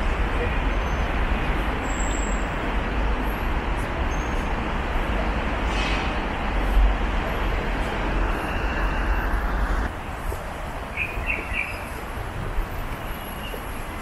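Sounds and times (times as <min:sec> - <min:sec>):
steady traffic noise: 0:00.0 - 0:14.0.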